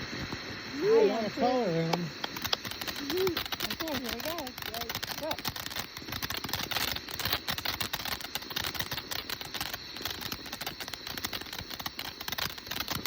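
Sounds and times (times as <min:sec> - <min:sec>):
firework crackling and popping: 0:00.0 - 0:13.0.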